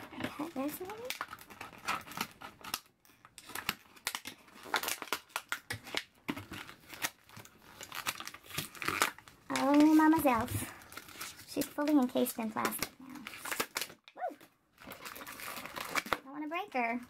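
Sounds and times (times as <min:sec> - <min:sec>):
packaging rustling: 0:00.1 - 0:16.2.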